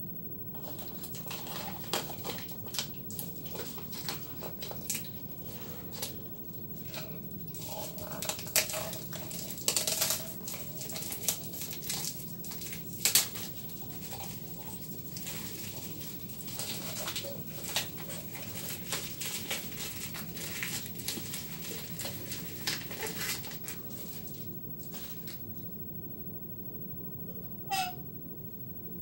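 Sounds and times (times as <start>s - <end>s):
plastic wrapper crinkling: 0.5s - 25.4s.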